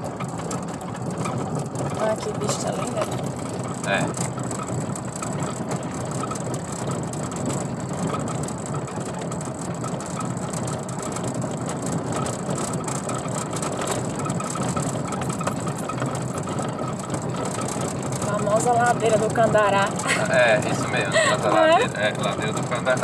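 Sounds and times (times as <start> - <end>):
vehicle rattling over paving stones: 0.0 - 23.0.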